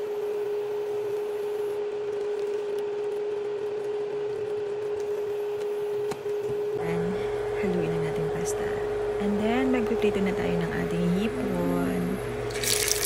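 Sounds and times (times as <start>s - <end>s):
induction cooktop electrical hum: 0.0s - 13.0s.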